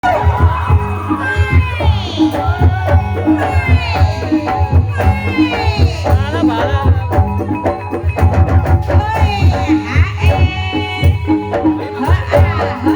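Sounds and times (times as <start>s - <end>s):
drums beating steady rhythm: 0.0s - 12.9s
gliding melody line: 0.0s - 12.9s
pitched percussion: 0.0s - 12.9s.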